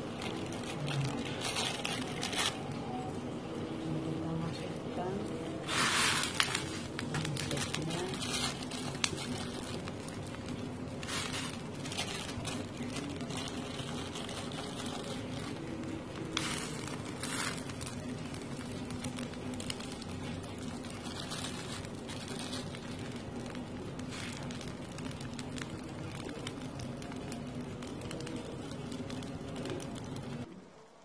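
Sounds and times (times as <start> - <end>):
water boiling in pot: 0.0 - 3.1, 3.7 - 30.8.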